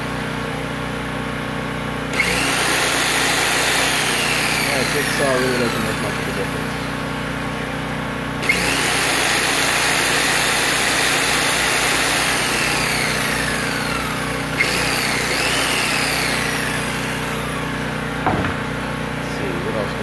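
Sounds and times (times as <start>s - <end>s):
generator engine humming: 0.0s - 20.0s
jigsaw running: 2.1s - 7.8s, 8.4s - 19.0s.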